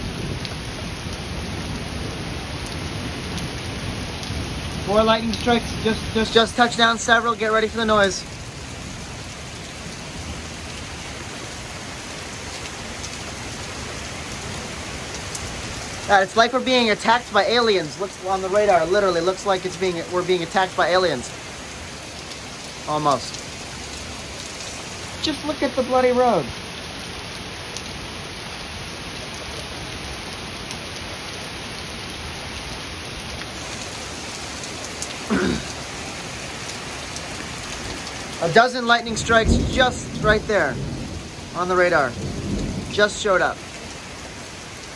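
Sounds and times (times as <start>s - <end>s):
heavy rain on pavement and cars: 0.0s - 44.9s.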